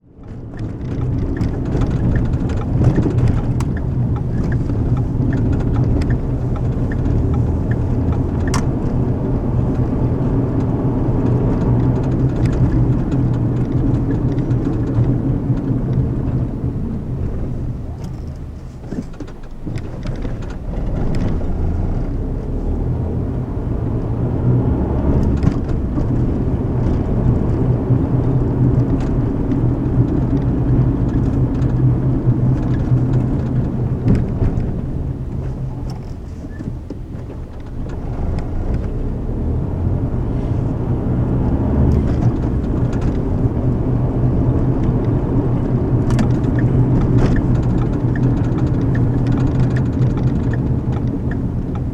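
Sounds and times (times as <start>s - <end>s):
car tyres and engine rumbling: 0.0s - 51.9s.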